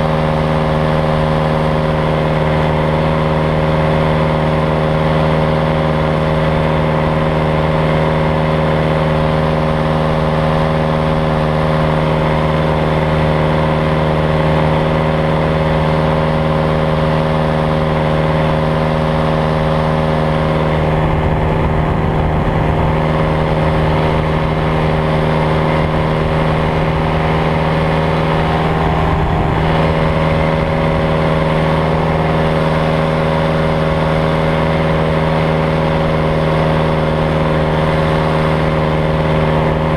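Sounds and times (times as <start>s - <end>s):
ultralight engine and propeller drone: 0.0s - 39.9s
wind rumbling on microphone: 0.0s - 39.9s.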